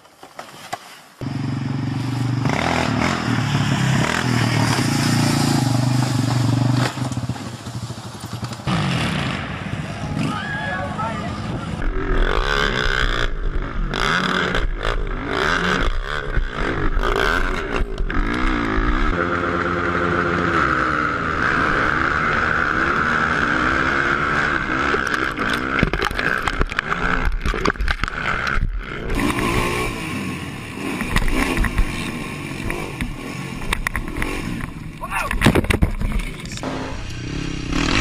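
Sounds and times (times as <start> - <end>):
quad bike engine revving: 1.2 - 38.0.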